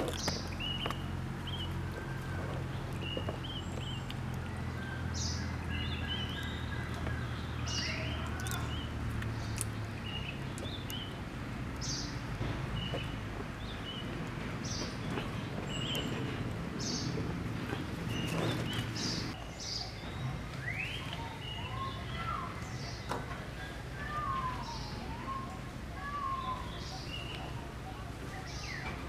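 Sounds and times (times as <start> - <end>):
birds chirping: 0.0 - 29.0
outdoor background noise: 0.0 - 29.0.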